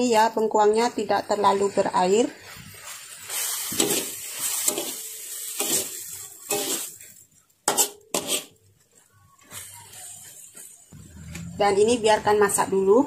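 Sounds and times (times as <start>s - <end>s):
metal spatula scraping a wok: 1.0s - 11.7s.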